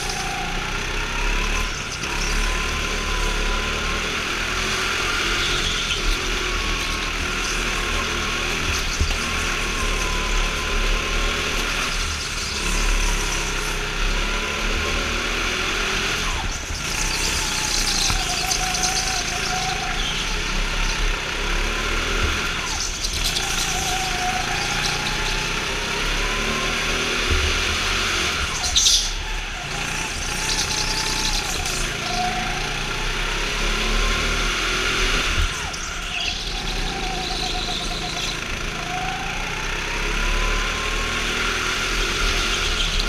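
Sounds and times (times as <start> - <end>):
go-kart engine: 0.0 - 43.0.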